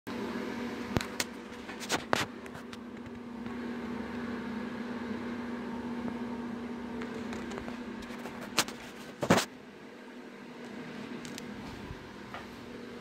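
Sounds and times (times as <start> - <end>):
exhaust fan motor hum: 0.1 - 13.0.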